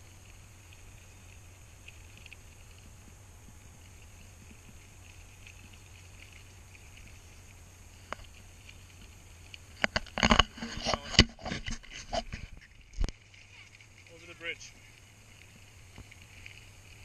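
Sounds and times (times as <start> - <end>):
bicycle rattling over gravel: 0.0 - 17.0
faint steady hiss: 0.0 - 17.0.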